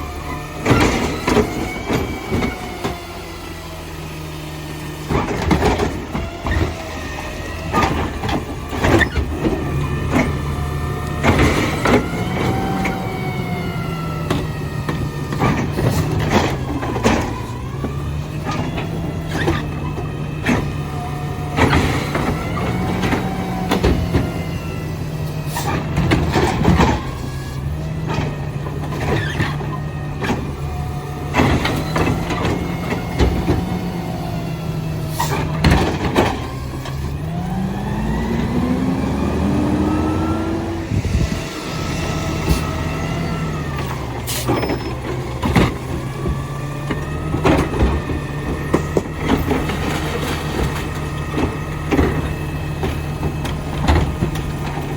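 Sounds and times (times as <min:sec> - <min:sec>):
bangs of trash being dumped: 0:00.0 - 0:54.9
garbage truck engine idling: 0:00.0 - 0:54.9.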